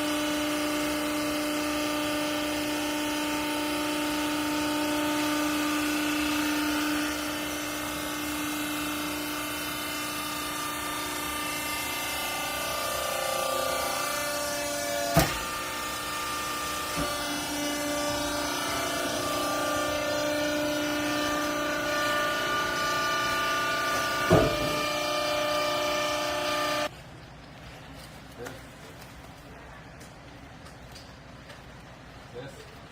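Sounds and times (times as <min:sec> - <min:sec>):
hydraulic pump whining: 0:00.0 - 0:26.9.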